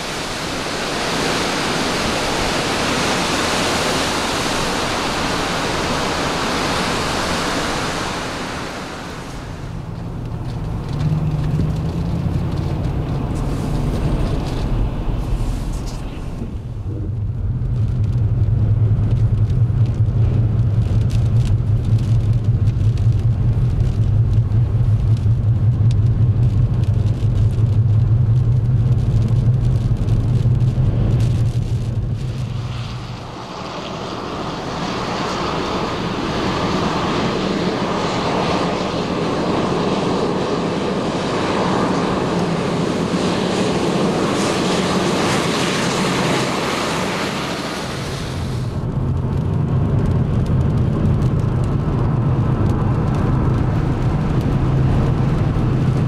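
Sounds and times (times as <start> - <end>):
wind rushing and buffeting: 0.0 - 56.0
car engine and tyre drone: 6.3 - 56.0.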